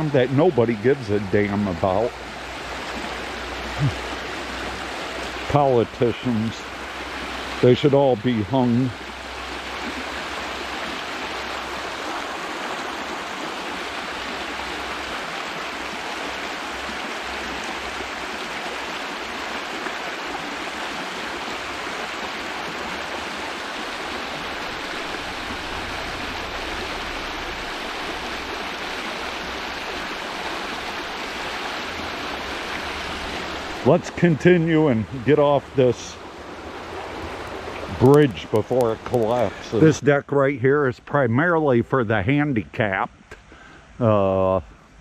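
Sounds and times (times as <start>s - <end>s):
creek water rushing: 0.0s - 45.0s.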